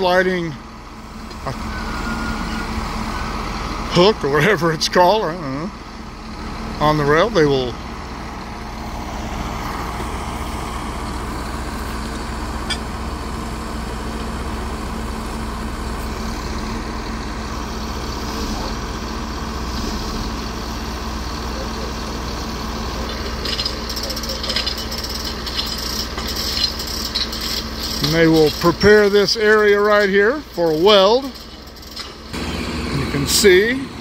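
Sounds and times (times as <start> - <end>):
machinery engine humming: 0.0 - 34.0.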